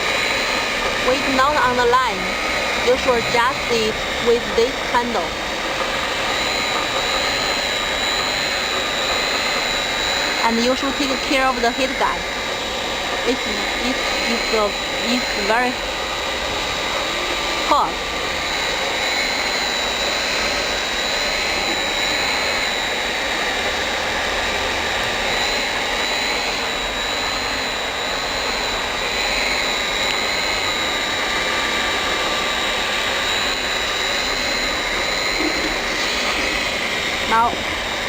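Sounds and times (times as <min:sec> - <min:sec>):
heat-gun blower with high whine: 0:00.0 - 0:38.0.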